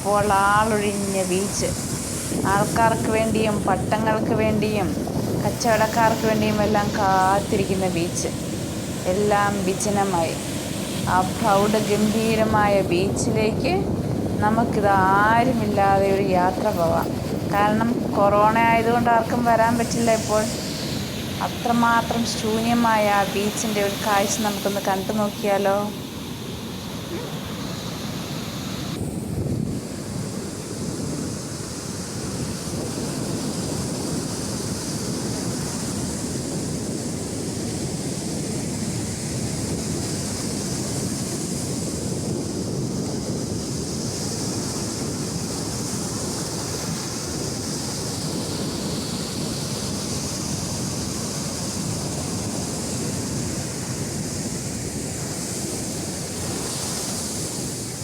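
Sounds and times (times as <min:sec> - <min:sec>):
sea waves washing onto beach: 0:00.0 - 0:58.0.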